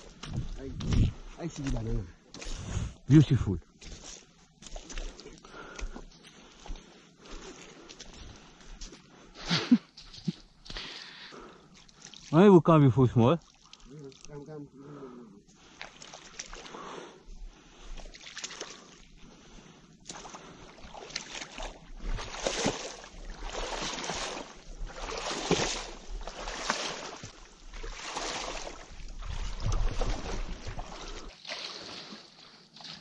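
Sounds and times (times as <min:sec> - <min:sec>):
water sloshing around canoe: 0:03.6 - 0:12.5, 0:13.4 - 0:33.0.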